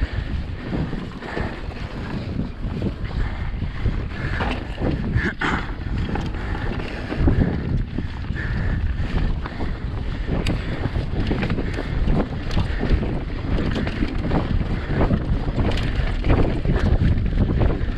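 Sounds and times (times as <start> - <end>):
bike rumbling and rattling: 0.0 - 17.9
wind buffeting microphone: 0.0 - 17.9.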